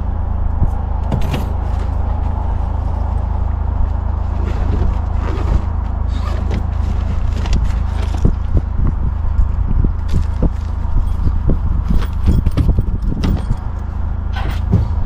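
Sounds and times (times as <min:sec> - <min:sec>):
low engine hum: 0:00.0 - 0:15.0
gear scraping and clicking: 0:00.6 - 0:15.0.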